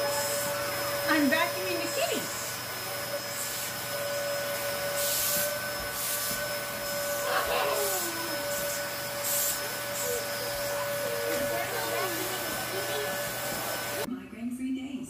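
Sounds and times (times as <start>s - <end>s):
vacuum cleaner whining: 0.0s - 14.1s
vacuum nozzle rubbing fur: 0.0s - 14.1s.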